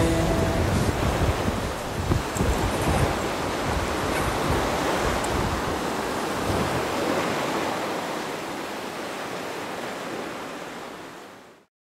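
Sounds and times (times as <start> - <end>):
waves breaking on beach: 0.0 - 11.7.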